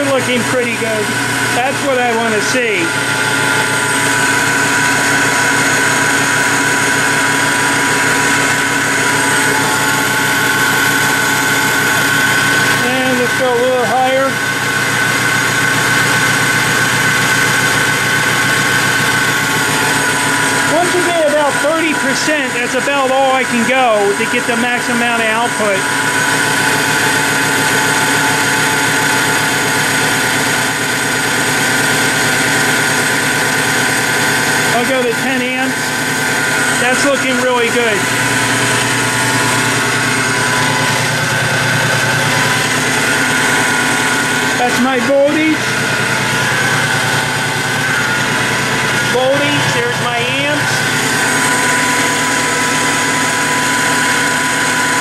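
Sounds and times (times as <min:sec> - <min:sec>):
electric motor humming: 0:00.0 - 0:55.0
high whine: 0:00.0 - 0:55.0.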